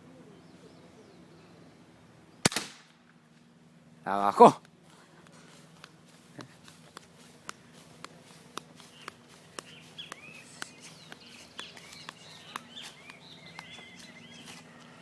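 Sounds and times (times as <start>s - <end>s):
birds chirping: 0.0s - 2.5s, 3.2s - 15.0s.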